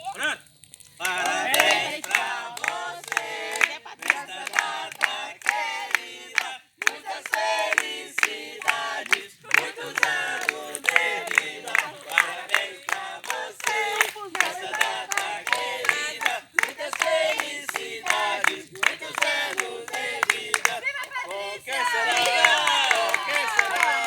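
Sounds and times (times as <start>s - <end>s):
group of people singing together: 1.0s - 24.0s
people clapping along: 1.0s - 24.0s.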